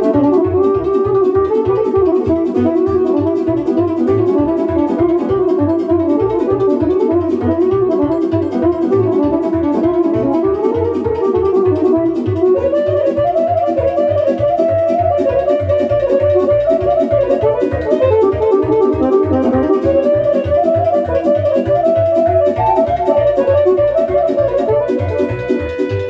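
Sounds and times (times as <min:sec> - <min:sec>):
fast accordion folk dance: 0:00.0 - 0:26.0.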